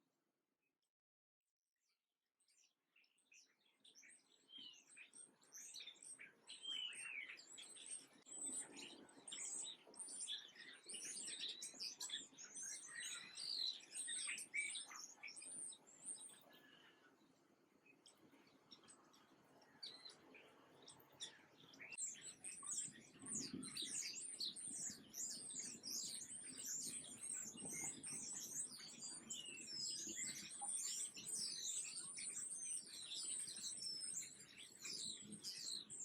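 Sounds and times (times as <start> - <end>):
small birds chirping: 2.4 - 36.0.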